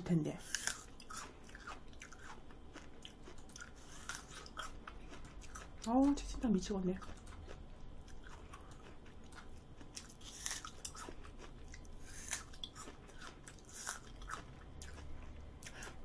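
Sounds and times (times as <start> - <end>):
food crunching: 0.4 - 16.0
wet chewing: 0.4 - 16.0.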